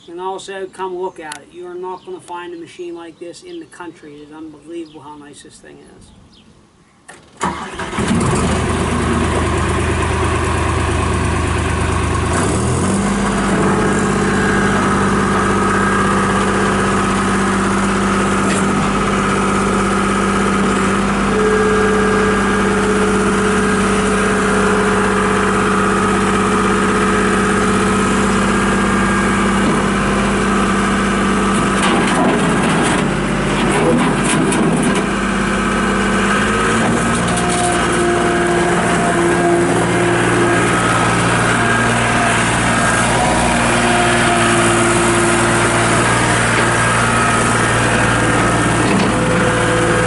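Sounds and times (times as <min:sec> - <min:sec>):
diesel engine cranking and starting: 0:07.1 - 0:50.0
diesel engine running: 0:07.4 - 0:50.0
steady whine: 0:07.4 - 0:50.0.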